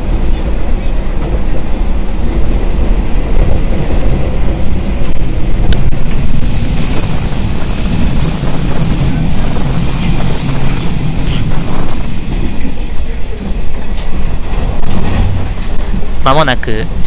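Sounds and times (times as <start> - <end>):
railcar running rumble: 0.0 - 17.0.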